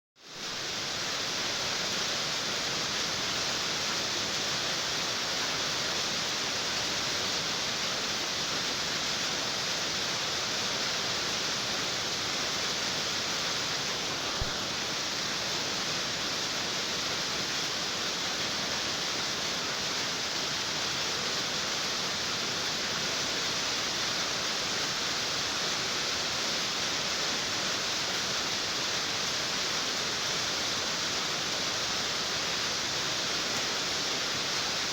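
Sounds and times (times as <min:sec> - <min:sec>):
rain on a tin roof: 0:00.2 - 0:34.9.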